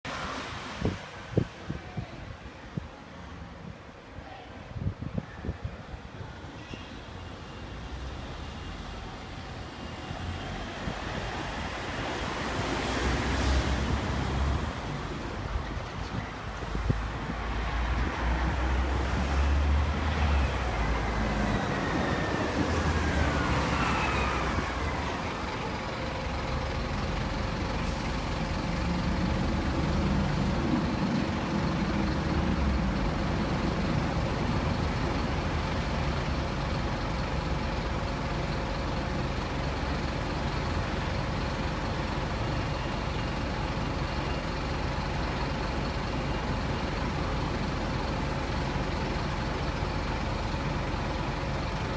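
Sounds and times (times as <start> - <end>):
bus diesel engine running: 5.9 - 51.9.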